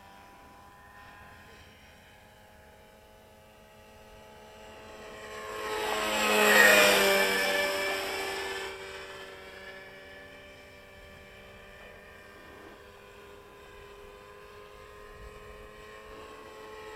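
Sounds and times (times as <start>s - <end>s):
model helicopter flying past: 0.0s - 16.9s.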